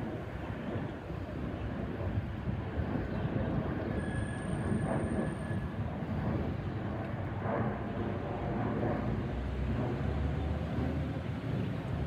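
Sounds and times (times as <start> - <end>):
jet rumble: 0.0 - 12.0.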